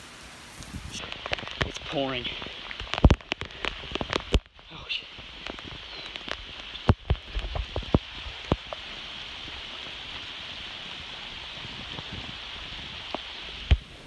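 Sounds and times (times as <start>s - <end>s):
heavy rain on water: 0.0s - 14.0s.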